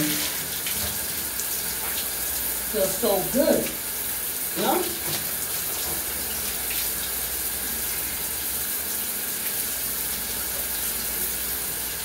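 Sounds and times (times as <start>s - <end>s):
shower spray on tiled wall: 0.0s - 12.0s.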